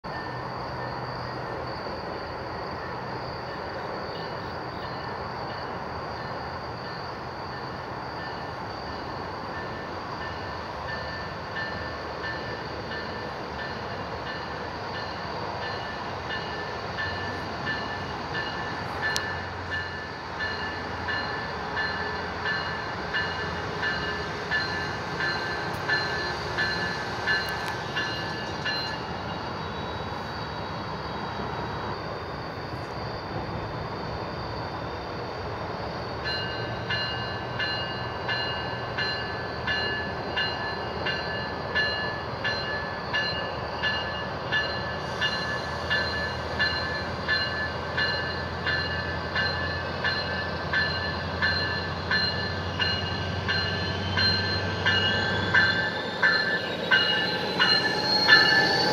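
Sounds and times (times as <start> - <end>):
train rumble: 0.0 - 58.9
train bell ringing: 0.1 - 31.2, 36.0 - 58.9.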